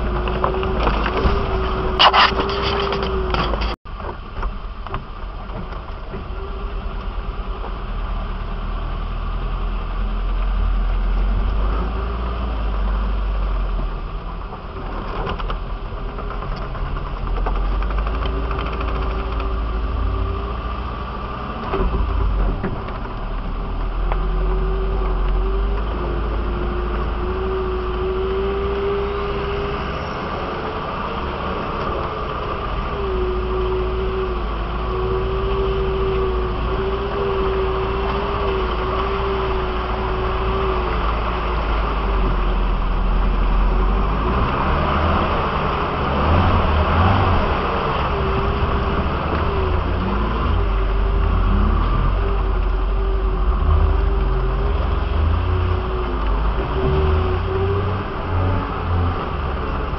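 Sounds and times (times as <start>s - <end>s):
vehicle engine low rumble: 0.0s - 59.9s.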